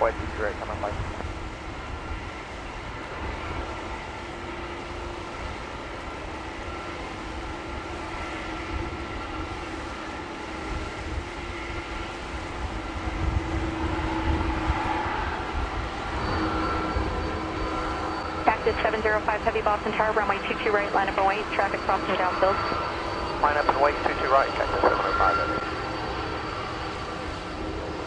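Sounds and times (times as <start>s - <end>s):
jet engines taxiing: 0.0s - 28.0s.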